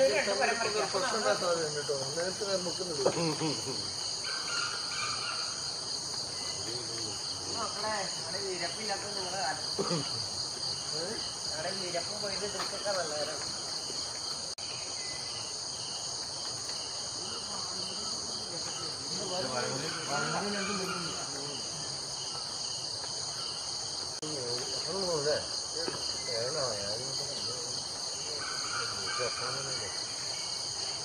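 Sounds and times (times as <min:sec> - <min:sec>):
insect chorus drone: 0:00.0 - 0:31.0.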